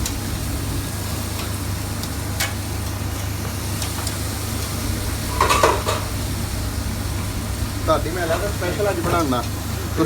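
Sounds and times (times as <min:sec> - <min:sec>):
kitchen machinery humming: 0:00.0 - 0:10.0.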